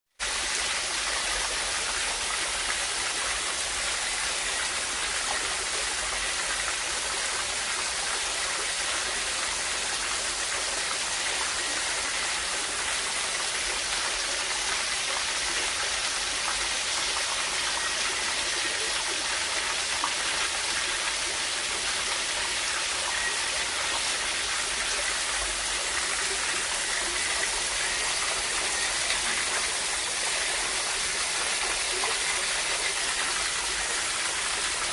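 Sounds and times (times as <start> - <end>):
running water rushing: 0.2 - 34.9.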